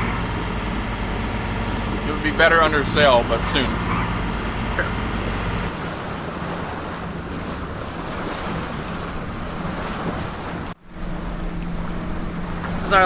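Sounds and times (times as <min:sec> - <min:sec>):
low engine hum: 0:00.0 - 0:13.0
water rushing past hull: 0:00.0 - 0:13.0
wind buffeting microphone: 0:00.0 - 0:13.0.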